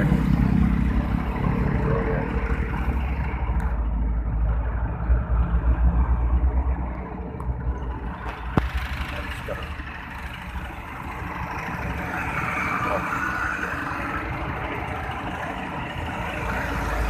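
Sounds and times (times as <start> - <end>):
heavy road traffic: 0.0 - 17.0
trucks passing with deep rumble: 0.0 - 17.0.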